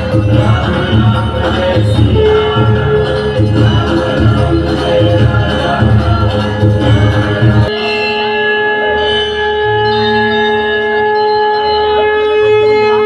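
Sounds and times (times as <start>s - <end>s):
busy music with a beat: 0.0s - 13.0s.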